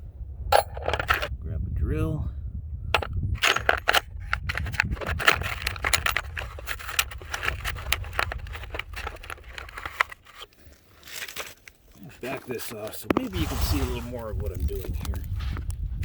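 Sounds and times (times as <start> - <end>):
hand tools clicking and scraping: 0.5 - 1.4, 3.0 - 15.2.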